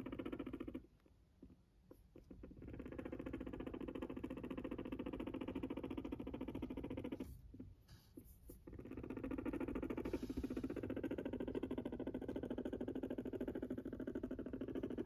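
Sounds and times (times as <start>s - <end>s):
guinea pig purring: 0.0s - 15.0s.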